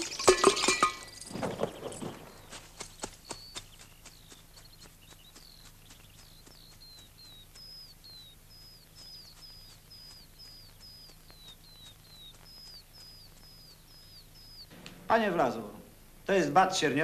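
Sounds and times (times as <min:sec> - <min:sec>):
faint low hum: 0:00.0 - 0:17.0
bird whistling calls: 0:01.0 - 0:14.8.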